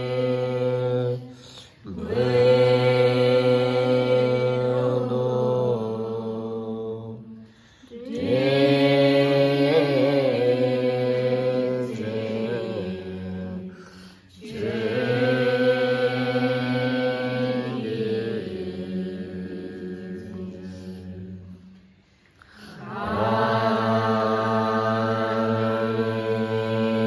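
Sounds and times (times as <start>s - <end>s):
group chanting in unison: 0.0s - 21.8s, 22.5s - 27.0s.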